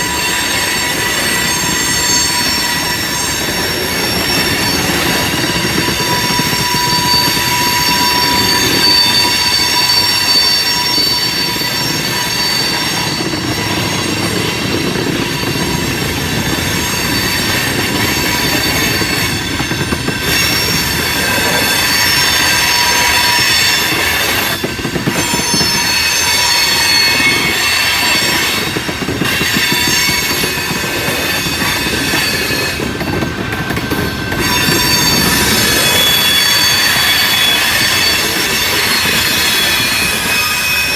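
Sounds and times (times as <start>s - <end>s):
freight train rumbling and clattering: 0.0s - 40.9s
steel wheels squealing on rails: 0.0s - 40.9s.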